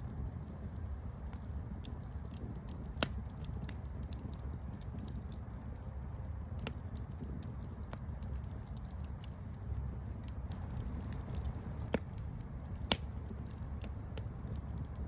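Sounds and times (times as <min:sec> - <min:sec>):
campfire flames rumbling and crackling: 0:00.0 - 0:15.0
sharp fire pops: 0:01.2 - 0:05.5, 0:06.2 - 0:15.0.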